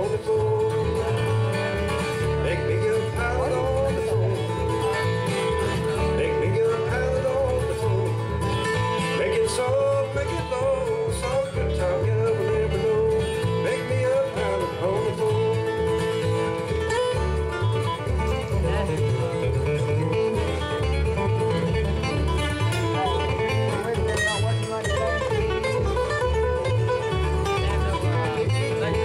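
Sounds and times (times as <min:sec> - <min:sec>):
acoustic guitars flatpicking: 0:00.0 - 0:29.0
upright bass: 0:00.0 - 0:29.0.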